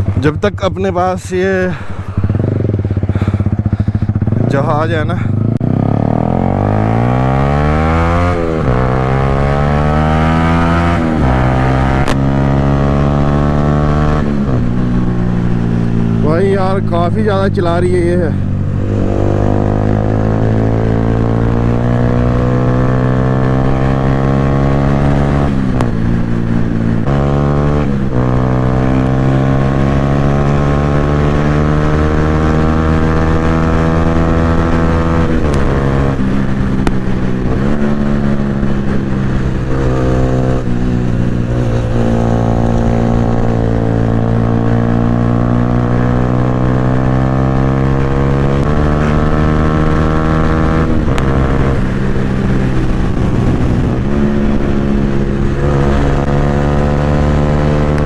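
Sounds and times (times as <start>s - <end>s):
motorcycle exhaust with gear changes: 0.0s - 58.0s.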